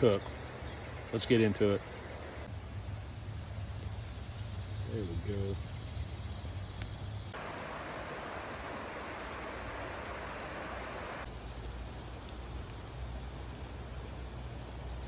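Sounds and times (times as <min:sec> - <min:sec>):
crickets trilling: 0:00.0 - 0:15.0
even hiss: 0:01.1 - 0:15.0.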